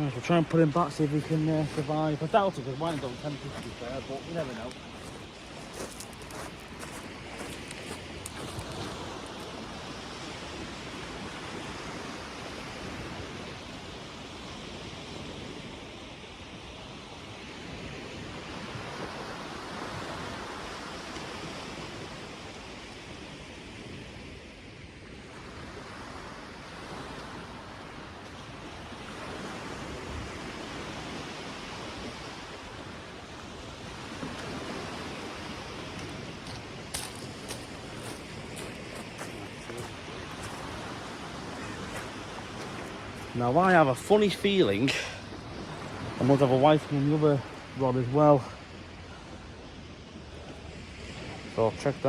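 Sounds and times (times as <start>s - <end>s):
sea waves washing onto beach: 0.0s - 52.0s.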